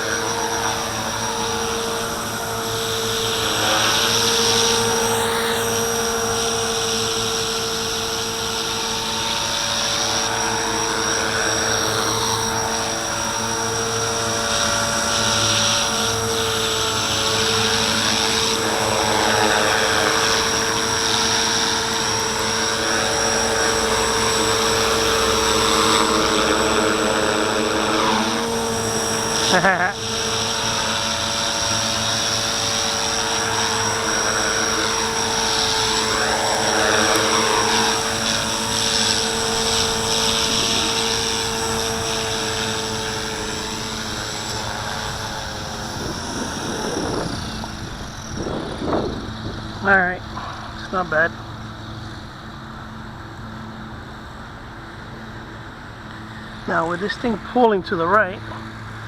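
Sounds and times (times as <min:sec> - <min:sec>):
rc helicopter motor whine: 0:00.0 - 0:59.0
rotors whirring: 0:00.0 - 0:59.0.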